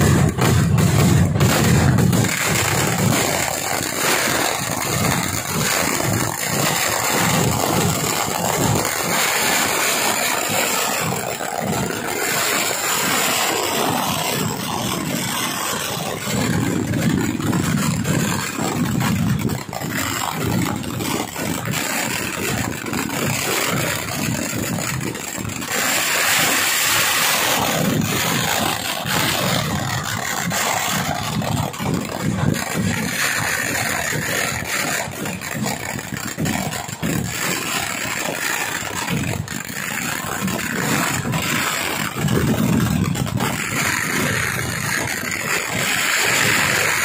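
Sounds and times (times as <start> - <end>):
fireworks barrage: 0.0 - 47.0.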